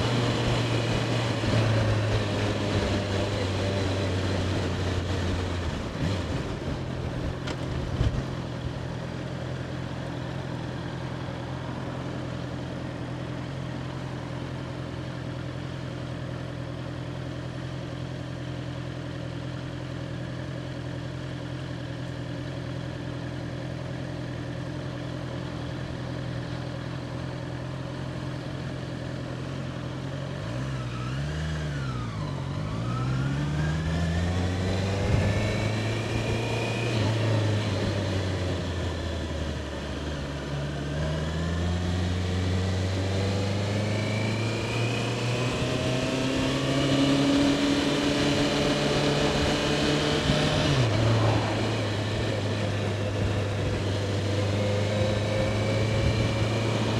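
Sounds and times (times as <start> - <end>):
wind and road noise: 0.0 - 16.8, 21.7 - 56.9
motorcycle engine running: 0.0 - 56.9.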